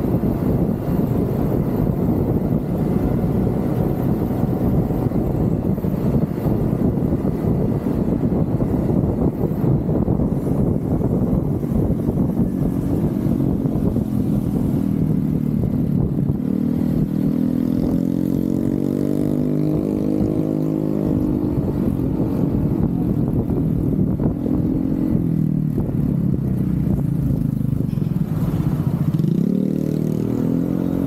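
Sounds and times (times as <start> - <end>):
scooter engine running: 0.0 - 31.0.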